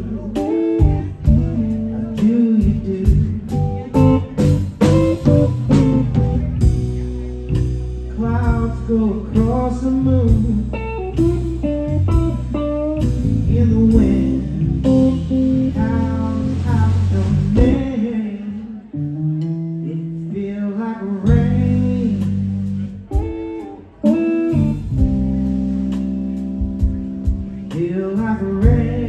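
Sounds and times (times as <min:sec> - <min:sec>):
drums: 0:00.0 - 0:18.6, 0:21.1 - 0:29.0
bass guitar: 0:00.0 - 0:29.0
electric guitar: 0:00.0 - 0:29.0.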